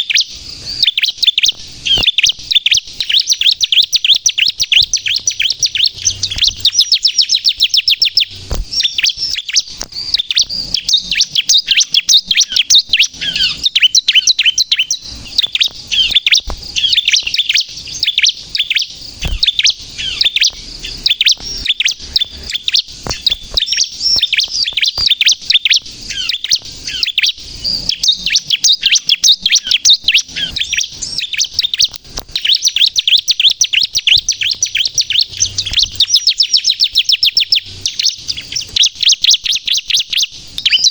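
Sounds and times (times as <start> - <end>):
bird singing rapid chirps: 0.0 - 40.9.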